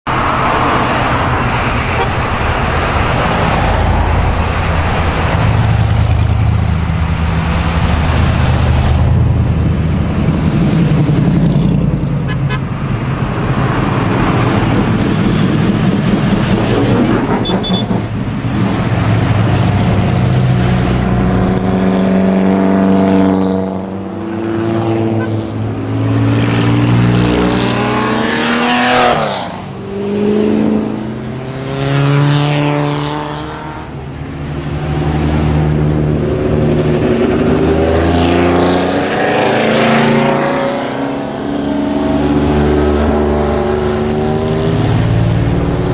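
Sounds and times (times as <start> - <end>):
race car engines revving past: 0.1 - 45.9.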